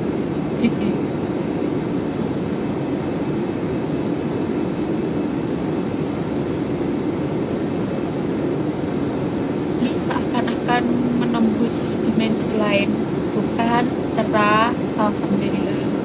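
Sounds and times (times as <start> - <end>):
jet cabin engine and air noise: 0.0 - 16.0.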